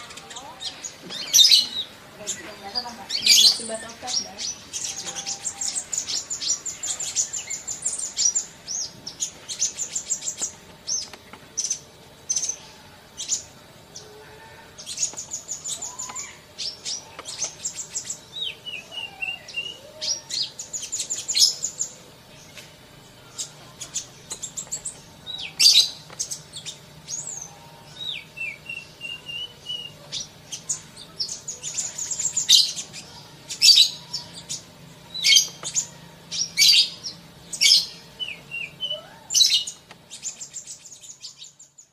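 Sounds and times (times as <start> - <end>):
bird trilling chirps: 0.0 - 41.9.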